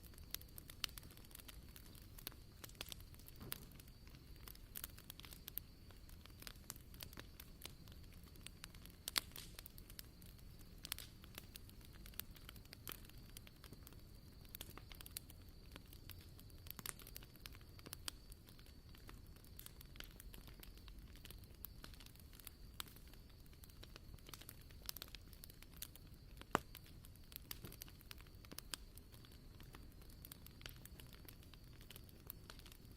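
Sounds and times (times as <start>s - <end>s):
wood bonfire crackling: 0.0s - 32.9s.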